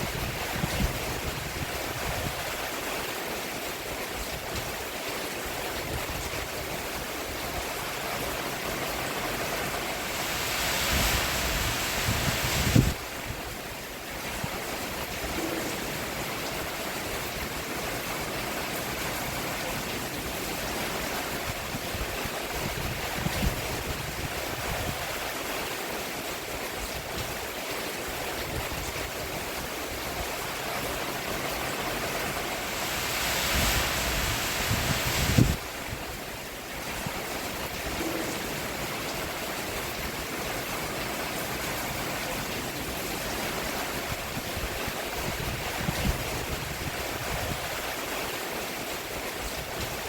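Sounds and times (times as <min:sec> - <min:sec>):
rain falling on a roof: 0:00.0 - 0:50.0.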